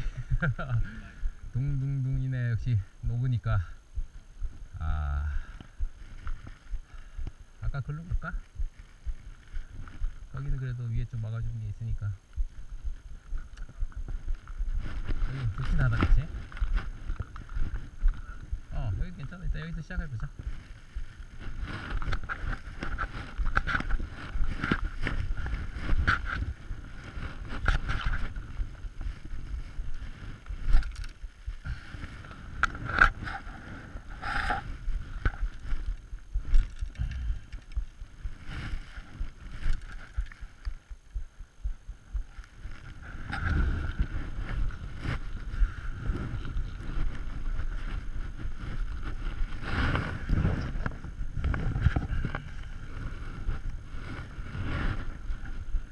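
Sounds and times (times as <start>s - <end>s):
footsteps in snow: 4.2s - 55.9s.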